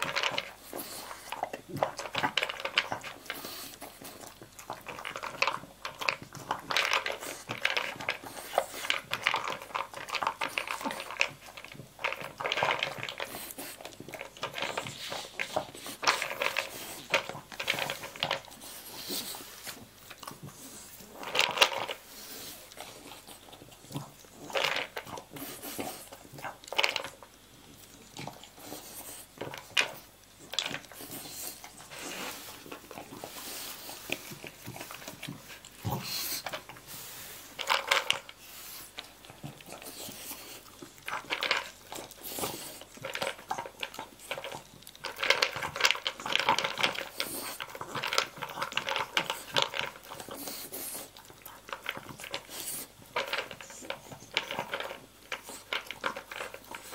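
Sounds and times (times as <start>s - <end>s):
dog crunching kibble: 0.0s - 56.9s.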